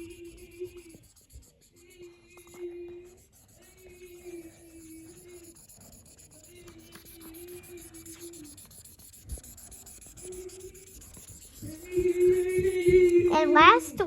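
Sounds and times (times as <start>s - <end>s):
marker scratching on paper: 0.0s - 14.0s.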